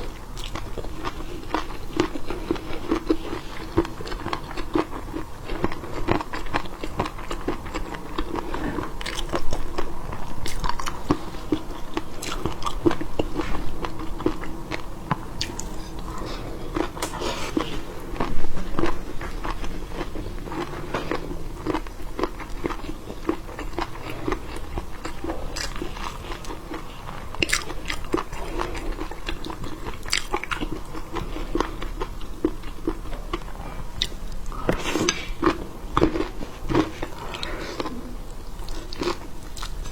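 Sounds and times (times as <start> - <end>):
biting and chewing seafood: 0.0 - 39.9.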